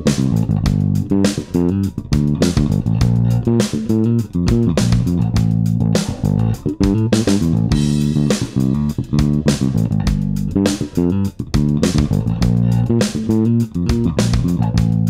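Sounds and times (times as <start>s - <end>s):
electric bass played fingerstyle: 0.0s - 15.0s.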